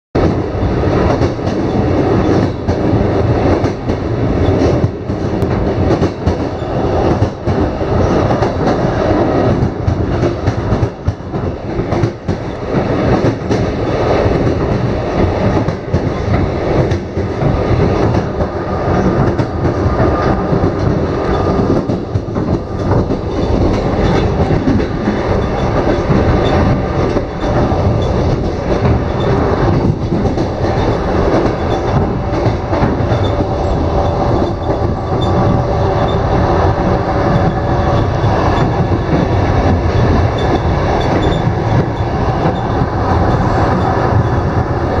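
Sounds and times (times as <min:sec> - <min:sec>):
train wheels rumbling on rails: 0:00.1 - 0:45.0
track clicks and knocks: 0:01.0 - 0:45.0.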